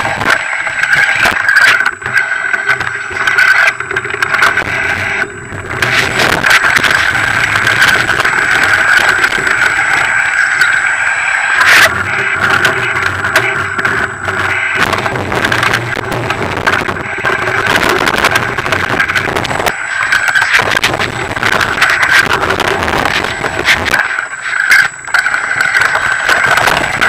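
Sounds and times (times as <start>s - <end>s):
steady buzz: 0.0s - 27.0s.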